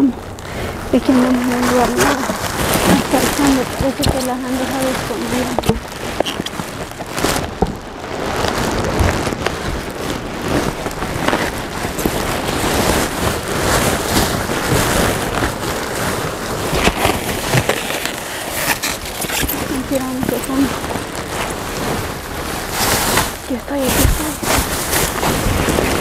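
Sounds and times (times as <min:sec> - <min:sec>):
plastic bags and cardboard rustling: 0:00.0 - 0:26.0.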